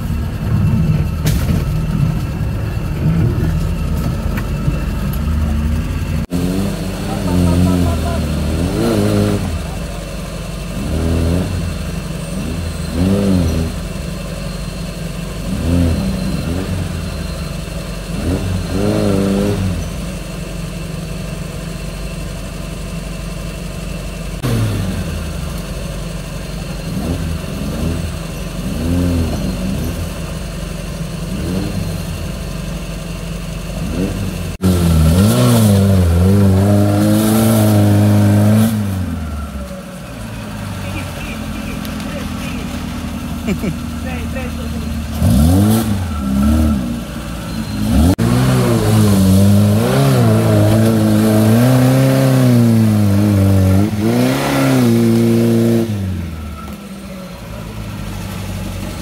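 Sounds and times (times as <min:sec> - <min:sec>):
low engine hum: 0:00.0 - 0:59.0
off-road vehicle engine revving: 0:00.0 - 0:59.0.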